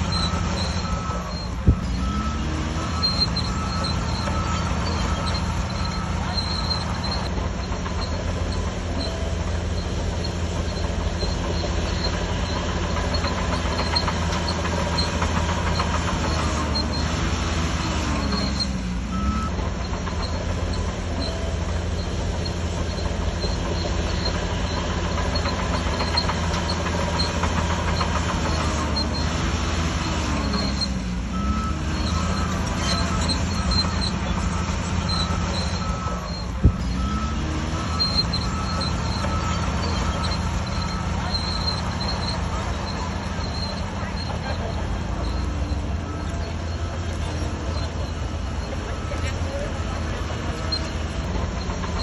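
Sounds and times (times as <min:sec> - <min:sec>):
bulldozer diesel engine running: 0:00.0 - 0:52.0
steel tracks clattering and squealing: 0:00.0 - 0:52.0.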